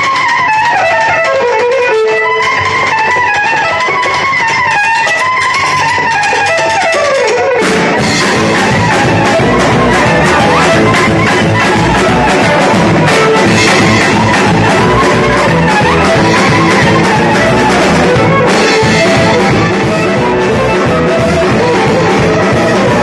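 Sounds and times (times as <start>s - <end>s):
loud music with drum beat: 0.0s - 23.0s.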